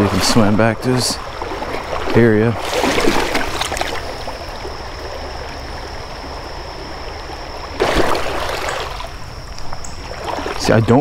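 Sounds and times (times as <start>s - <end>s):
creek water flowing: 0.0s - 11.0s
rush of water: 0.0s - 11.0s.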